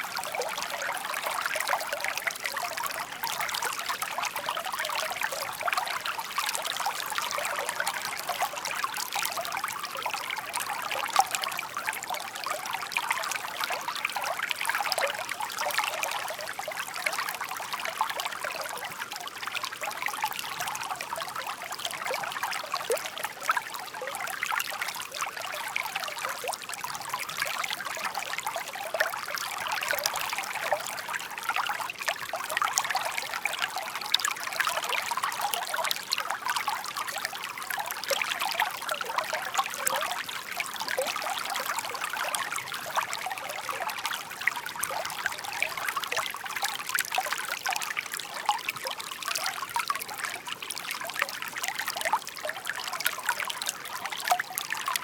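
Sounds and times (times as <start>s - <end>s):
brook babbling and trickling: 0.0s - 55.0s.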